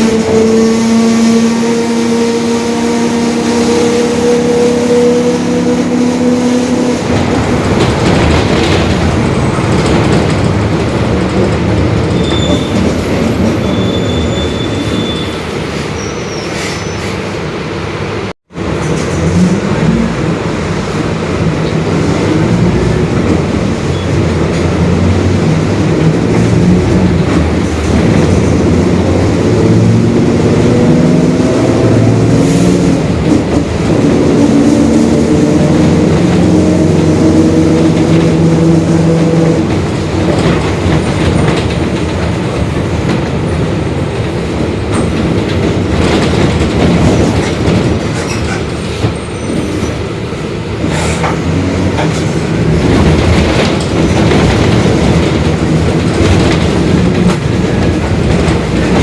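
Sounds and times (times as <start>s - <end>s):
bus diesel engine running: 0.0s - 15.8s, 17.1s - 59.0s.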